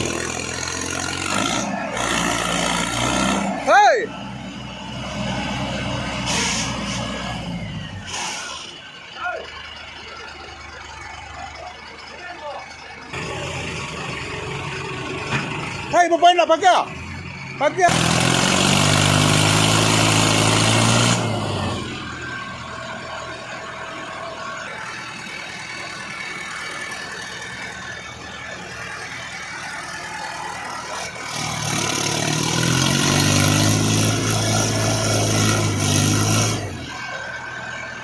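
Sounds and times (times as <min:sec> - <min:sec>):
diesel tractor engine revving: 0:00.0 - 0:38.0.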